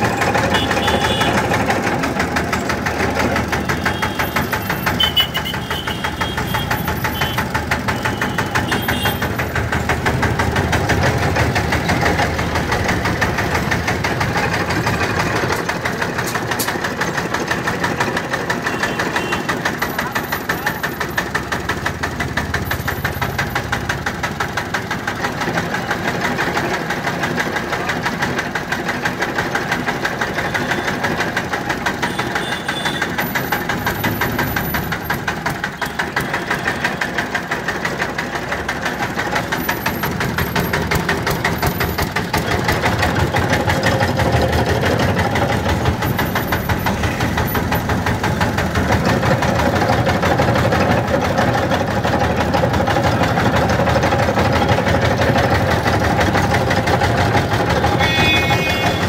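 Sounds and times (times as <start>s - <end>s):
small engine chugging: 0.0s - 59.0s.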